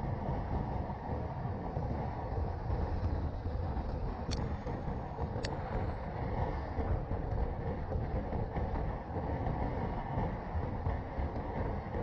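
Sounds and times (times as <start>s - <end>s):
wind rush: 0.0s - 12.0s.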